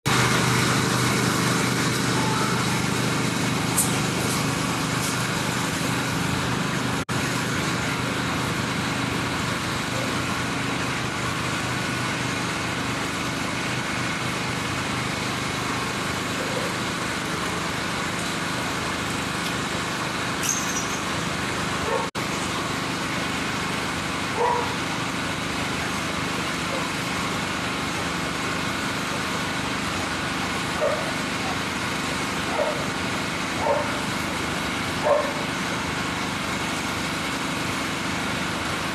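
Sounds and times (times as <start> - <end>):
engine drone with hiss: 0.1 - 38.9.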